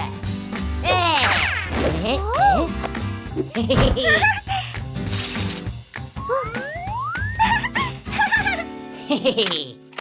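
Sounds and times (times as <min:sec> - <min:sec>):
cartoon music backing: 0:00.0 - 0:10.0.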